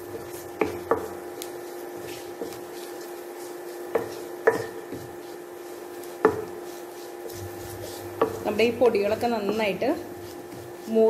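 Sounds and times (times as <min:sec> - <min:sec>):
cooktop hum: 0:00.0 - 0:11.0
utensil scraping a pan: 0:00.0 - 0:11.0.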